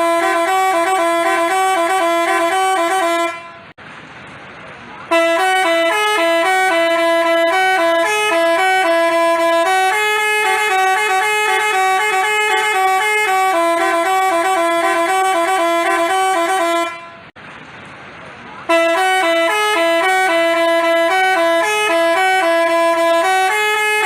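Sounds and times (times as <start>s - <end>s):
musical bus horn tune: 0.0s - 3.8s, 5.1s - 17.4s, 18.7s - 24.0s.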